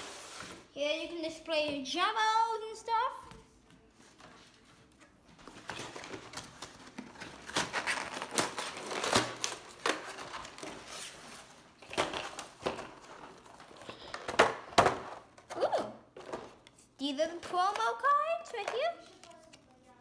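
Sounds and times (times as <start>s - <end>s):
plastic and cardboard crinkling: 3.9s - 20.0s.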